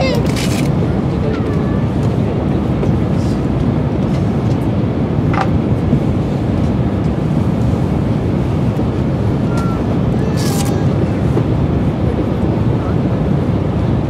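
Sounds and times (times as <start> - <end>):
train cabin rumble: 0.0 - 14.0.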